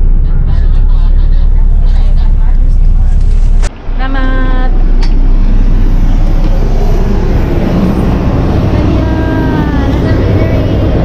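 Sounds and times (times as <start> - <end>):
engine and machinery rumble: 0.0 - 11.0.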